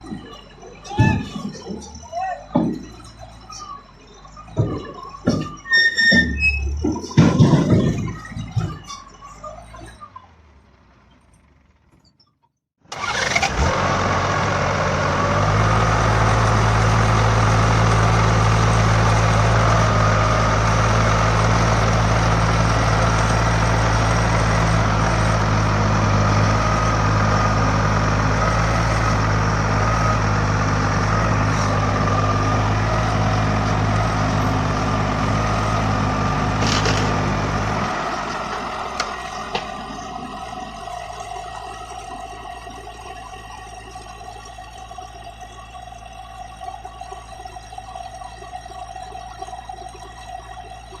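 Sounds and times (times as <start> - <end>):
heavy vehicle engine running: 0.0 - 12.2, 12.8 - 51.0.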